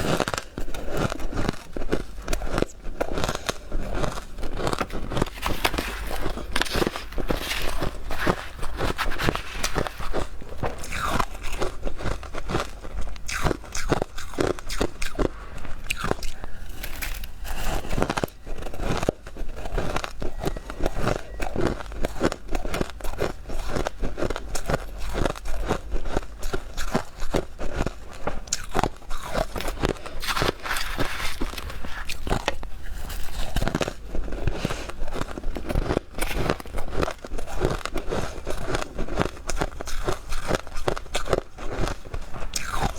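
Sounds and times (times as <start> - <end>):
chewing crunchy frost: 0.0 - 42.9.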